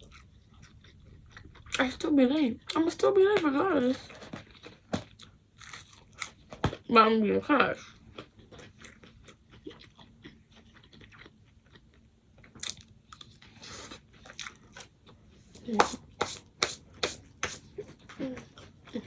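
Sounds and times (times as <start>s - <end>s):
person chewing crunchy food: 0.0s - 1.8s, 4.1s - 6.8s, 7.9s - 19.0s.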